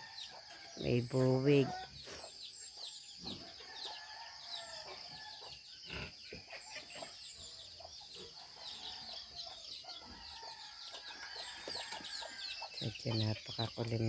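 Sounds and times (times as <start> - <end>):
chickens clucking: 0.0 - 14.0
chicks peeping: 0.0 - 14.0.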